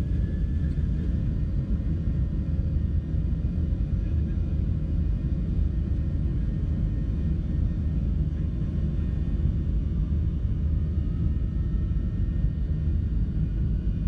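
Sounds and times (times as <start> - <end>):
airliner cabin jet engine rumble: 0.0 - 14.0.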